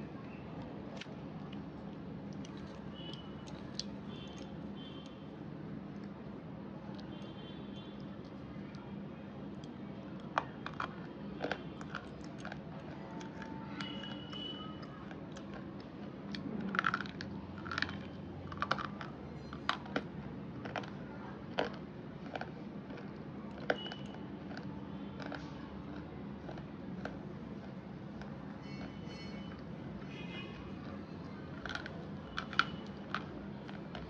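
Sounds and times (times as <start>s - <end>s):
pencils crunching when chewed: 0.6s - 5.2s, 9.5s - 29.7s, 30.8s - 34.0s.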